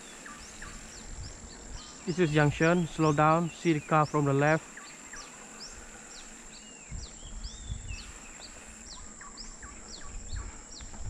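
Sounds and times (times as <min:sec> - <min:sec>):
birds chirping: 0:00.0 - 0:11.0
high-pitched insect drone: 0:00.0 - 0:11.0.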